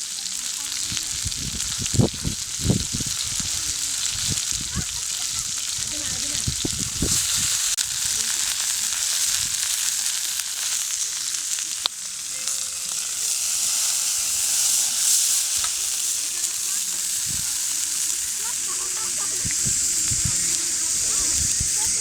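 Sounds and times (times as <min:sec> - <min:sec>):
food sizzling over campfire: 0:00.0 - 0:22.0.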